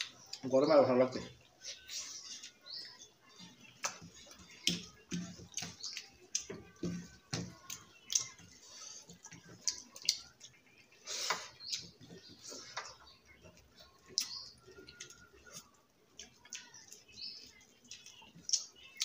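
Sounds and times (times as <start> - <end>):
wet chewing and lip-smacking: 1.4 - 19.0.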